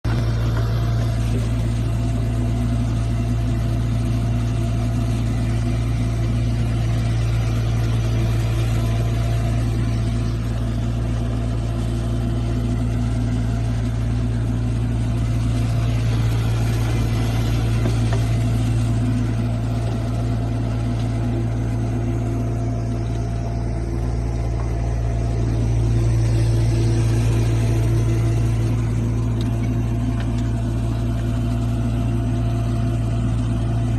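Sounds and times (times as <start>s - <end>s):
excavator diesel engine humming: 0.0s - 33.9s.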